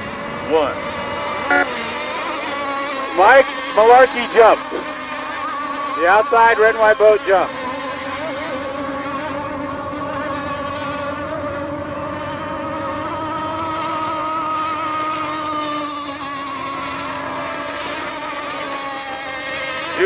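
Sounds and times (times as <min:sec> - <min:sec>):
model boat engines buzzing: 0:00.0 - 0:20.0.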